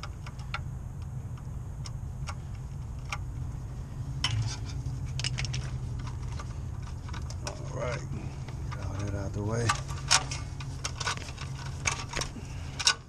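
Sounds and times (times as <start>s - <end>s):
steady low hum: 0.0s - 13.0s
wires and connectors rattling: 0.0s - 13.0s.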